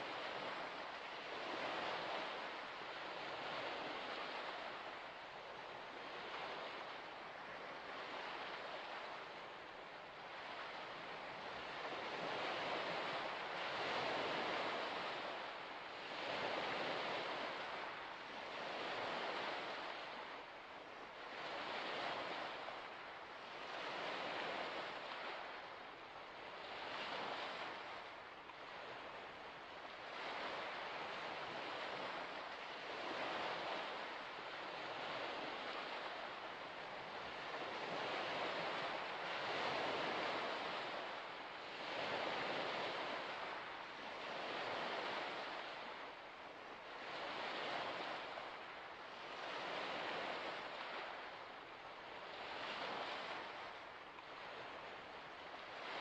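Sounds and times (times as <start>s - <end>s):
small waves washing ashore: 0.0s - 56.0s.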